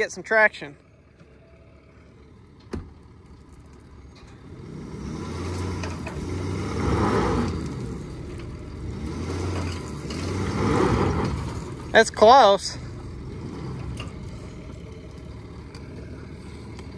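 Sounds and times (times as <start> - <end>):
truck engine revving under load: 1.0 - 16.9.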